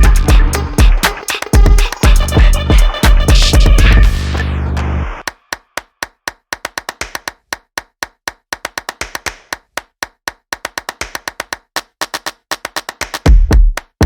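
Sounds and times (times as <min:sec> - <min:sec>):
percussion claps: 0:00.0 - 0:04.5, 0:05.1 - 0:14.0.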